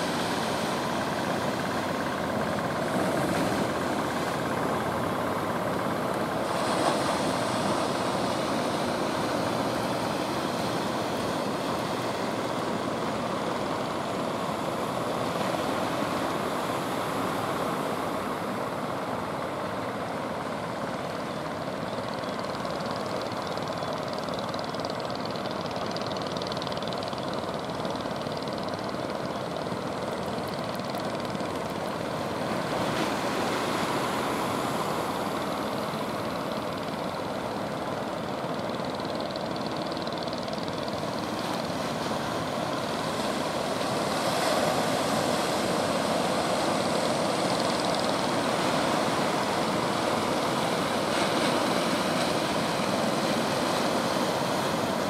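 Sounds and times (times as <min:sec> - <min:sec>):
boat engines droning: 0:00.0 - 0:55.0
choppy water: 0:00.0 - 0:55.0.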